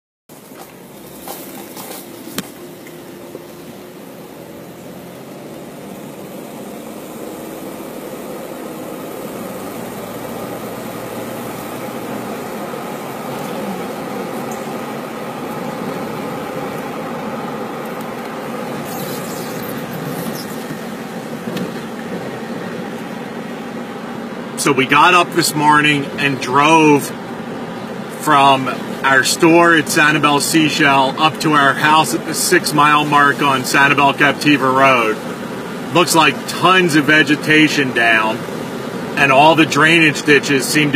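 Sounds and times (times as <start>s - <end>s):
road and engine noise: 0.3s - 40.9s
air conditioning running: 0.4s - 40.9s.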